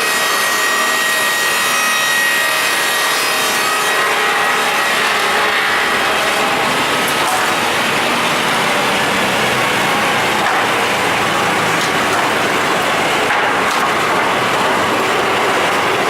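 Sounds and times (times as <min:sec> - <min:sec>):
machine running loudly: 0:00.0 - 0:16.0.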